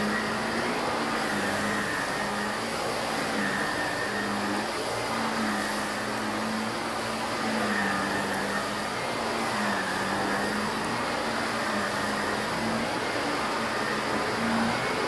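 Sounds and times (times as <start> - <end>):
vacuum cleaner on carpet: 0.0 - 15.0.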